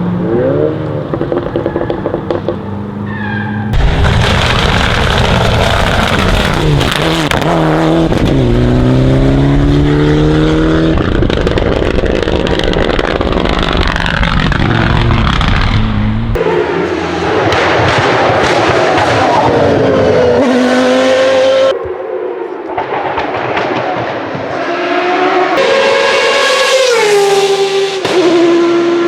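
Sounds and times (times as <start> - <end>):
race car engine accelerating: 3.8 - 29.0.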